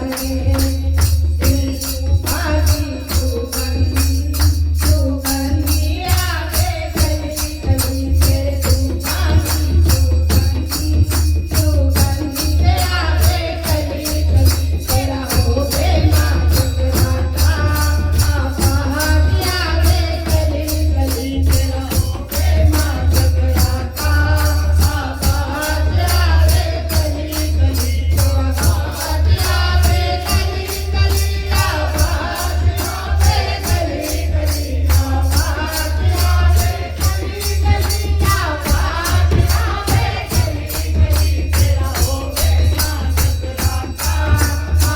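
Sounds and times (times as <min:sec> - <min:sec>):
devotional music with jingling beat: 0:00.0 - 0:44.9.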